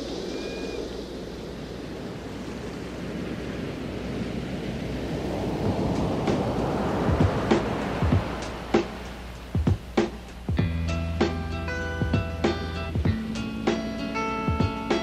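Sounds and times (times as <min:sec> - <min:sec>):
rushing noise like surf: 0:00.0 - 0:15.0.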